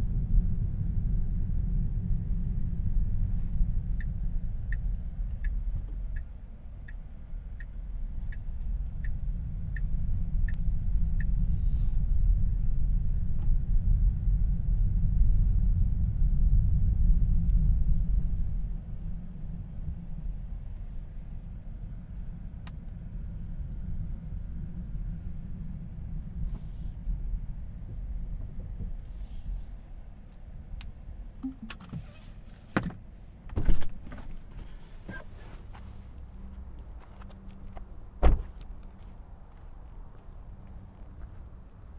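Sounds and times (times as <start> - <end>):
road and tyre rumble in car: 0.0 - 41.9.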